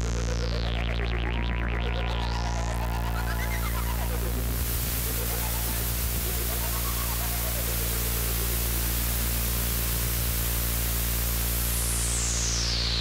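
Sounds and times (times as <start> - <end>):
low synth drone: 0.0 - 13.0
synthesizer white-noise wash: 0.0 - 13.0.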